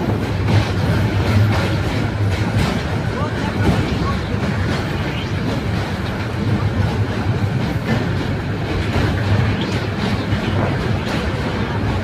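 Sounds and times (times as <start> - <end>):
train rumbling over bridge: 0.0 - 12.0
wheels clattering on rail joints: 0.0 - 12.0.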